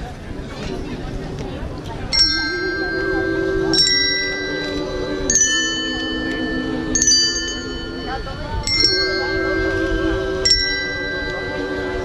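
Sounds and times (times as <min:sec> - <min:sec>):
held low tone: 0:00.7 - 0:12.0
bell-like chimes ringing: 0:02.1 - 0:12.0.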